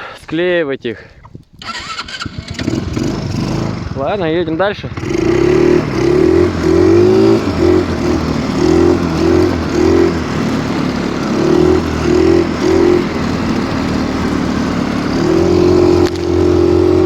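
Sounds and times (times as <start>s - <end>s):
snowmobile engine revving: 1.6s - 17.0s.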